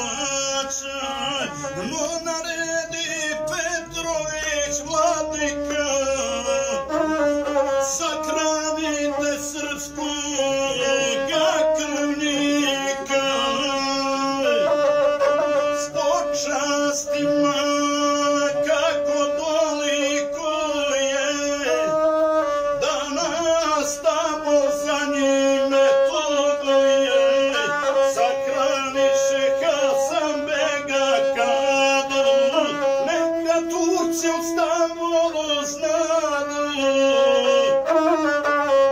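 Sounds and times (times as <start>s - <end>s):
bowed single-string fiddle: 0.0s - 38.9s
person singing: 0.0s - 38.9s.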